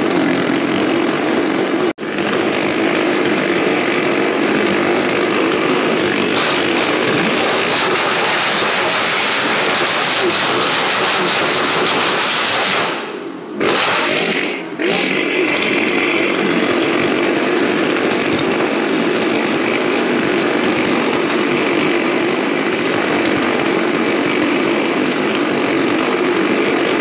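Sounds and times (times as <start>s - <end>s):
motorcycle engines droning: 0.0s - 27.0s.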